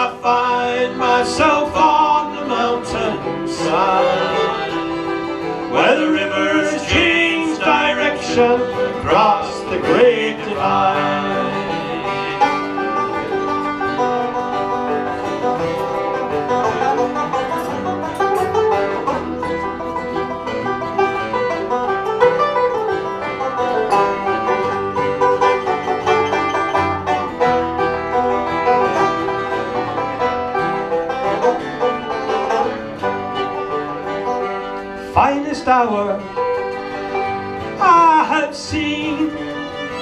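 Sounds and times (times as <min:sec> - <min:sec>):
banjo picking: 0:00.0 - 0:40.0
bluegrass band playing: 0:00.0 - 0:40.0.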